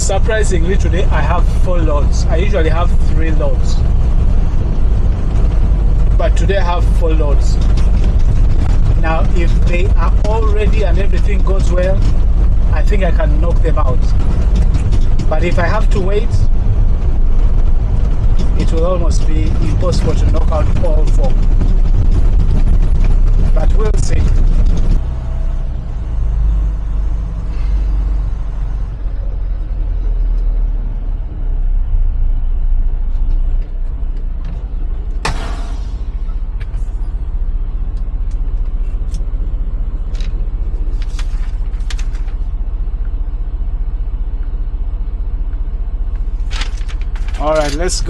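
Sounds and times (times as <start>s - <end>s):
truck diesel engine rumbling: 0.0s - 48.0s.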